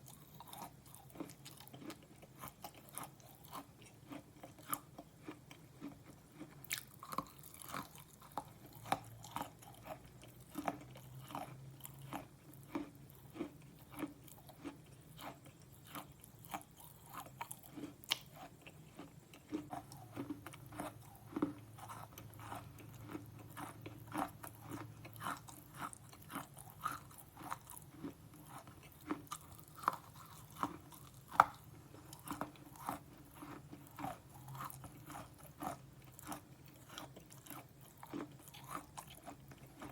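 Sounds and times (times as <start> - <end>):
pencil being chewed crunching: 0.0 - 39.9.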